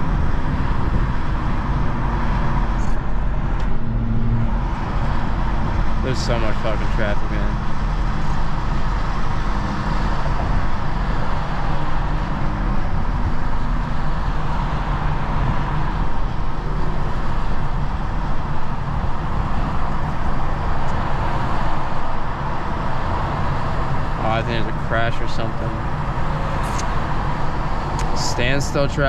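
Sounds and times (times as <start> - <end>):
car engine drone: 0.0 - 29.0
tyre and road noise: 0.0 - 29.0.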